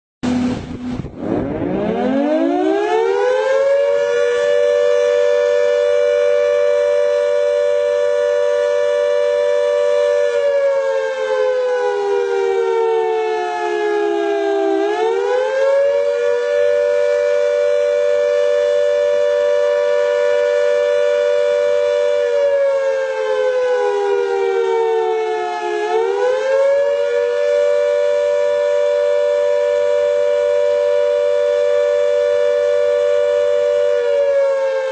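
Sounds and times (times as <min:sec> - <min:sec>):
air-raid siren wailing: 0:00.2 - 0:34.9.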